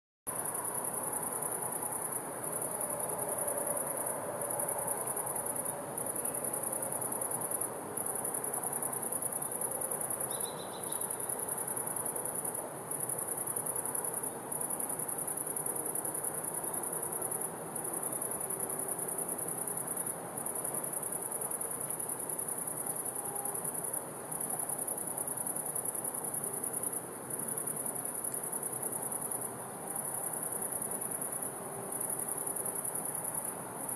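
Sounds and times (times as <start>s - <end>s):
crickets trilling: 0.3s - 33.9s.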